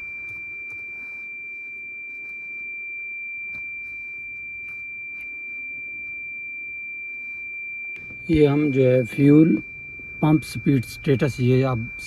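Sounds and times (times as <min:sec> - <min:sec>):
warning buzzer steady high tone: 0:00.0 - 0:12.0.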